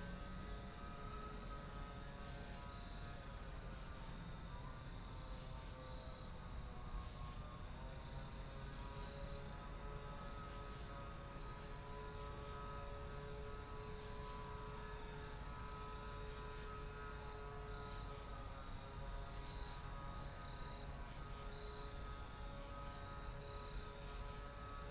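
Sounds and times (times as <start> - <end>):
distant engine drone: 0.0 - 24.9
woodland ambience: 0.0 - 24.9.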